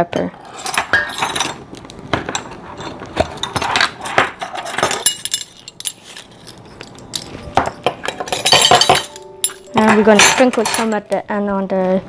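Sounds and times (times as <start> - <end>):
kitchen utensils clinking: 0.0 - 11.1.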